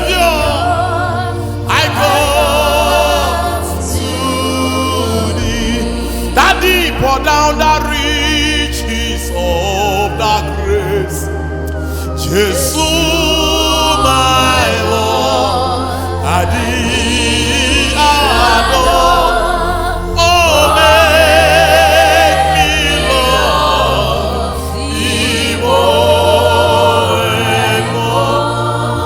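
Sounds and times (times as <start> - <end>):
sustained bass accompaniment: 0.0 - 29.0
wavering sung notes: 0.0 - 29.0.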